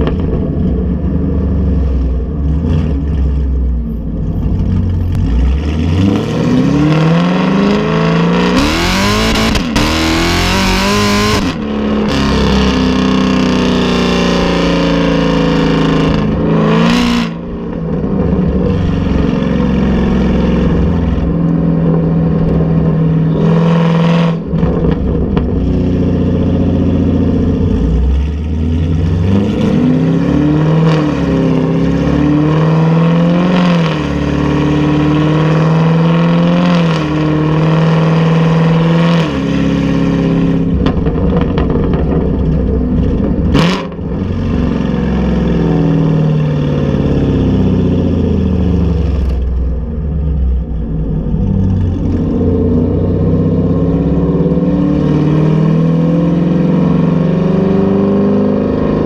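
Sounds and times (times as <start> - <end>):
car engine exhaust revving: 0.0 - 59.0.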